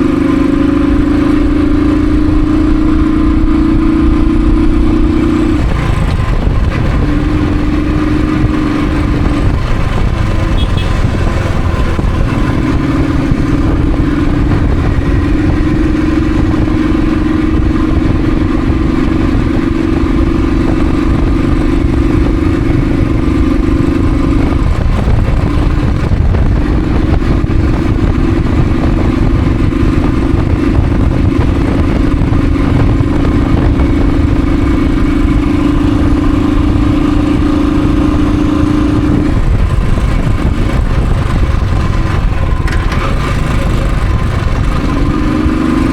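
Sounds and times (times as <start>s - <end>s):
motorcycle engine hum: 0.0s - 45.9s
wind and road rumble: 0.0s - 45.9s.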